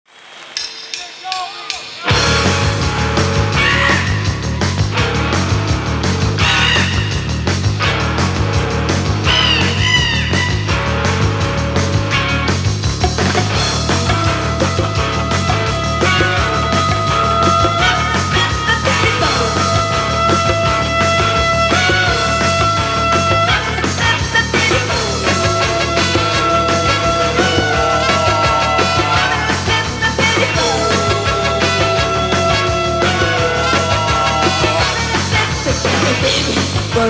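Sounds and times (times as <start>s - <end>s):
rock band playing live: 0.6s - 37.0s.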